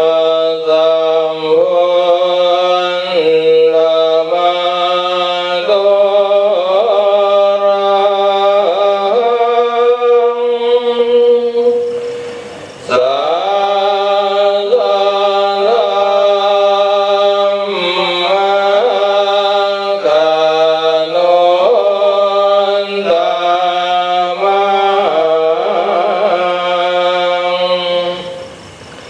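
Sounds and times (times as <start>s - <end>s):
man chanting into a microphone: 0.0s - 28.5s.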